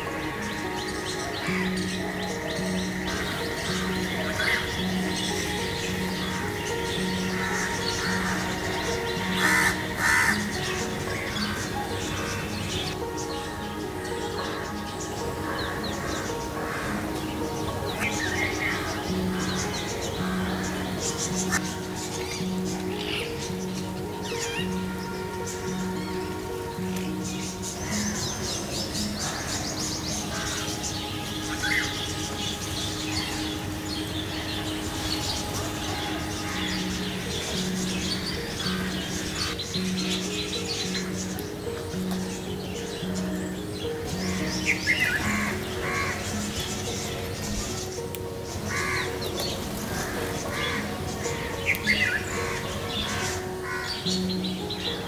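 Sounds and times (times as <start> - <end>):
crows cawing: 0.0 - 55.0
small birds chirping: 0.0 - 55.0
soft background music: 0.0 - 55.0.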